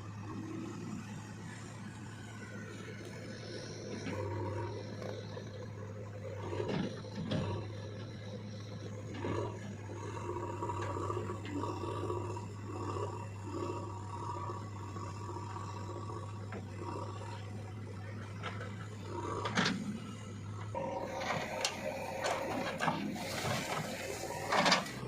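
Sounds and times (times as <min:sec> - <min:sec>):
diesel engine under load: 0:00.0 - 0:25.0
wavering whine: 0:00.0 - 0:25.0.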